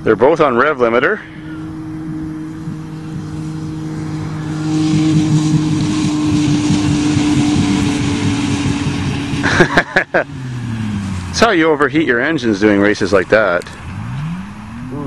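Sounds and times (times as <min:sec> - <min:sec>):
car engines on rev limiter: 0:00.0 - 0:15.0.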